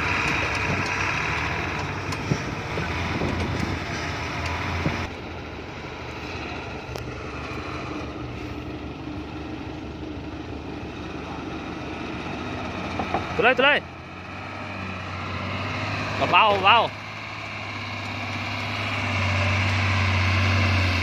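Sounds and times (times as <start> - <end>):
truck diesel engine running: 0.0 - 21.0.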